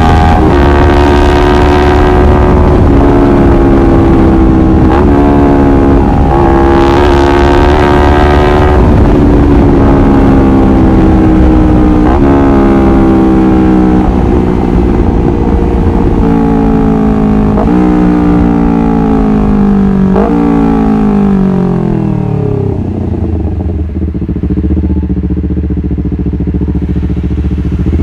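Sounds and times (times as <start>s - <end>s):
motorcycle engine revving high: 0.0s - 28.0s.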